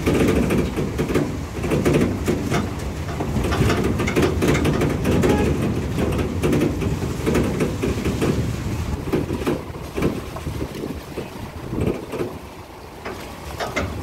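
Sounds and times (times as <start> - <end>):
vehicle body knocks and rattles: 0.0 - 12.4, 13.0 - 14.0
engine and road rumble: 0.0 - 14.0.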